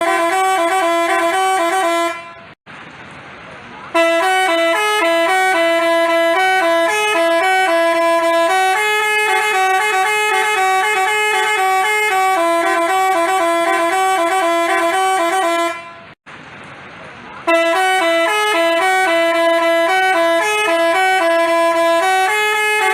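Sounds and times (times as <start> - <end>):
musical bus air horn: 0.0 - 2.6, 3.9 - 16.2, 17.5 - 22.9.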